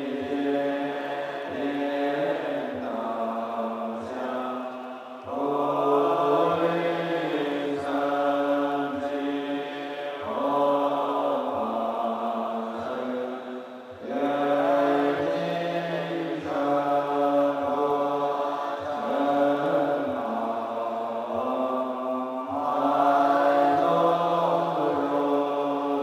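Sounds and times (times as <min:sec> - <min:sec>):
monks chanting in unison: 0:00.0 - 0:26.0.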